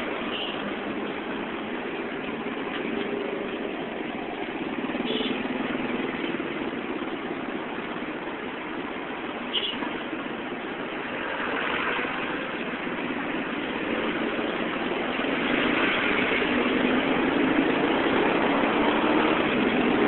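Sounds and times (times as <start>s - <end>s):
city traffic engines: 0.0s - 20.0s
road noise: 0.0s - 20.0s.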